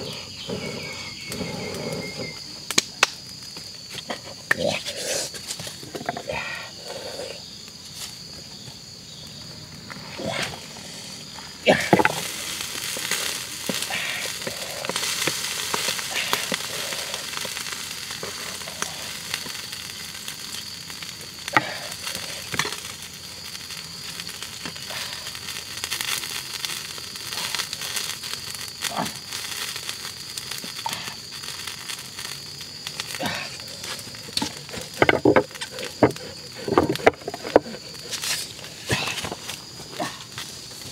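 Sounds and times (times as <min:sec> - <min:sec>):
liquid sizzling and crackling: 0:07.0 - 0:40.9.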